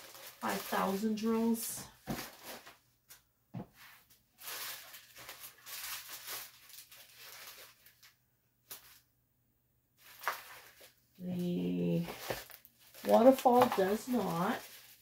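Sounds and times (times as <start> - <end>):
packaging rustling: 0.0 - 2.8, 3.8 - 9.0, 10.0 - 15.0.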